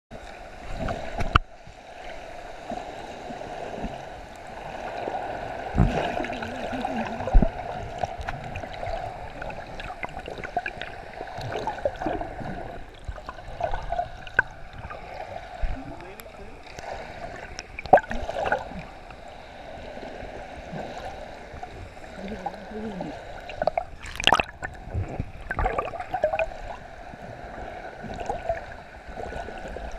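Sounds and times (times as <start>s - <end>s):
underwater bubbles: 0.1s - 29.9s
water sloshing and gurgling: 0.1s - 29.9s.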